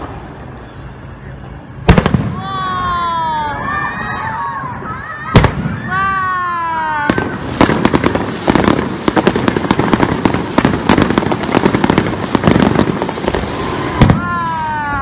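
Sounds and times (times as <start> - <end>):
firework bangs: 0.0 - 15.0
firework crackle: 0.0 - 15.0.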